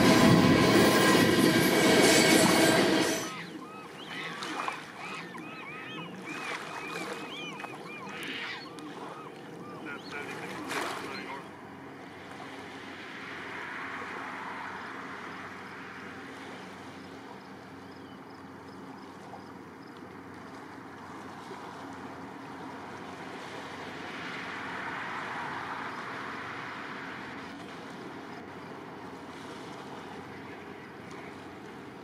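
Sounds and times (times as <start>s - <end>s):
faint diesel locomotive hum: 0.0s - 32.0s.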